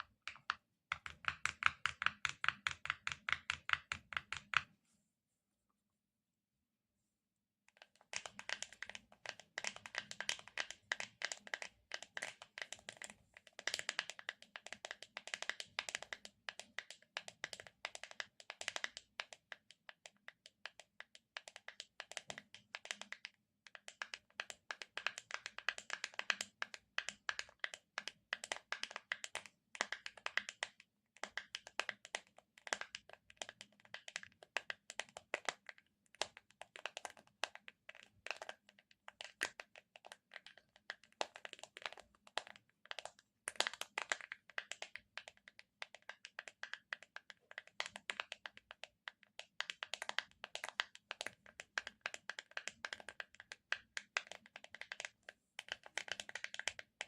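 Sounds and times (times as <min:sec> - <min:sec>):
fingers tapping sticky surface: 0:00.0 - 0:04.7, 0:07.8 - 0:57.0.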